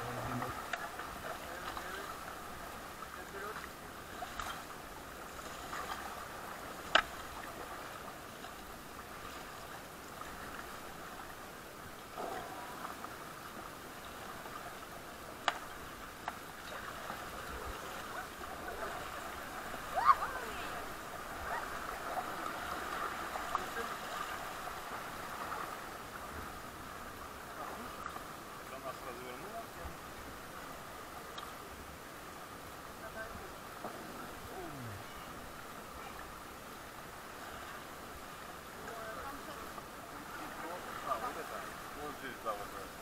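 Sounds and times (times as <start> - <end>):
water splashing from paddles: 0.0 - 43.0
whitewater rushing: 0.0 - 43.0.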